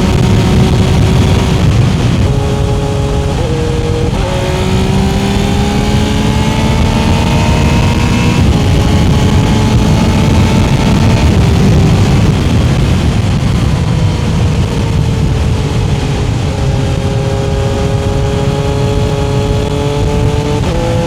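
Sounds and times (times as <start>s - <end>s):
engine rumbling and accelerating: 0.0s - 21.0s.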